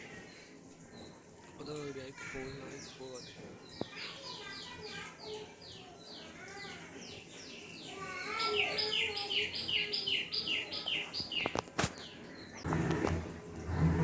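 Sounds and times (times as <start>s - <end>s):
bird chirping: 0.2s - 13.9s.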